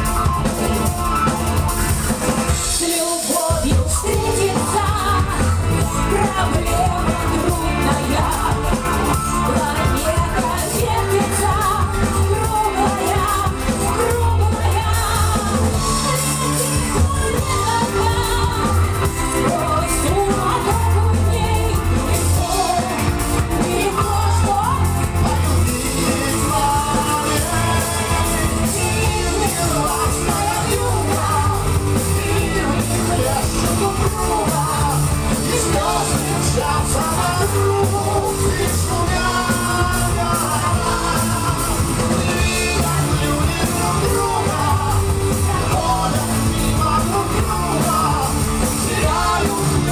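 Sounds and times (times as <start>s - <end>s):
bass line: 0.0s - 2.8s, 3.6s - 49.9s
drums: 0.0s - 49.9s
electric guitar: 0.0s - 49.9s
keyboards: 0.0s - 49.9s
person singing: 0.0s - 49.9s.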